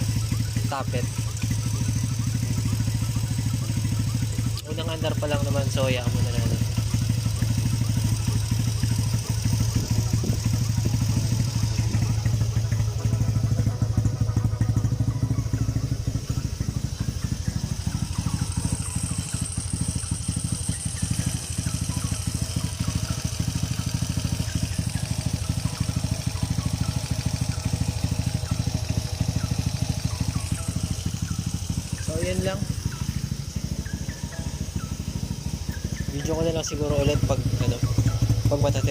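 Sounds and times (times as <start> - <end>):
engine valve tick: 0.0 - 38.9
motorcycle engine idling: 0.0 - 38.9.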